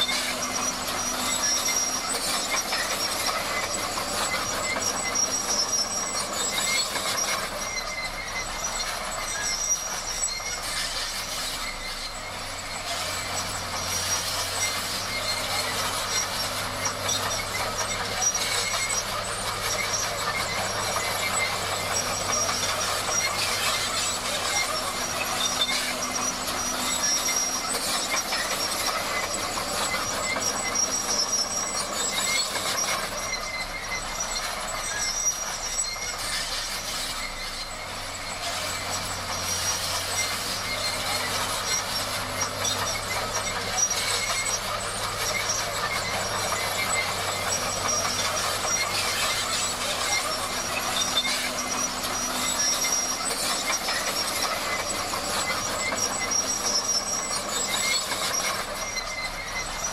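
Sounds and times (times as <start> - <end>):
diesel engine hum: 0.0 - 59.9
steel tracks squealing and clattering: 0.0 - 59.9.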